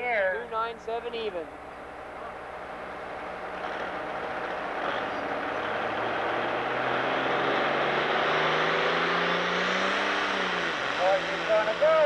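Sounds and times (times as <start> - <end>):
diesel engine running hard: 0.0 - 12.0.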